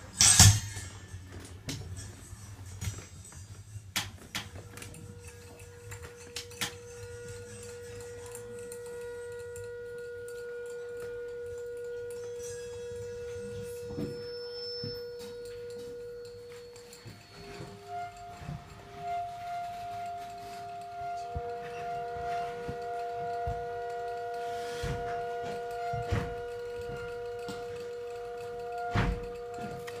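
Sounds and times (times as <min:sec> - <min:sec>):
clicks and knocks of handled objects: 0:00.0 - 0:30.0
steady pitched tone: 0:04.6 - 0:30.0.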